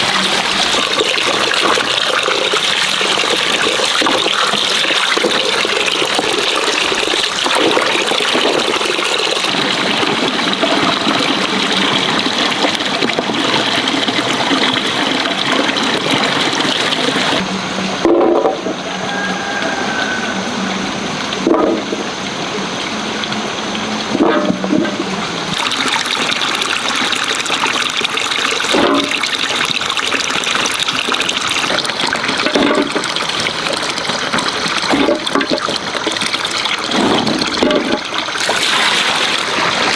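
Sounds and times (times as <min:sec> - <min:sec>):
water running and splashing: 0:00.0 - 0:17.5, 0:18.5 - 0:39.9.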